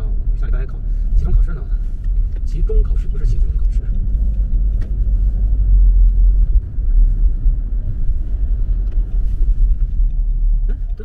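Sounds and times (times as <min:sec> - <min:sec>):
car road rumble on wet road: 0:00.0 - 0:11.0.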